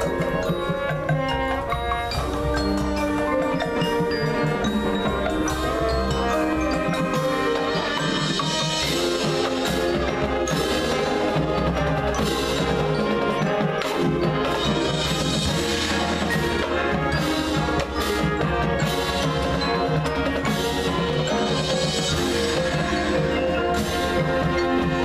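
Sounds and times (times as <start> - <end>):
drums striking: 0.0 - 25.0
marching band brass chords: 0.0 - 25.0
marimbas and xylophones: 0.0 - 25.0.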